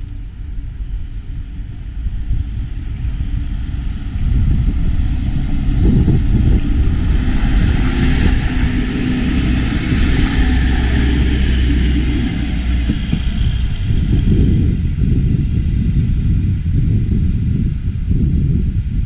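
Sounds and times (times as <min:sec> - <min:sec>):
diesel train engine drone: 0:00.0 - 0:19.0
steady hum: 0:00.0 - 0:19.0
train rushing noise: 0:02.3 - 0:18.2.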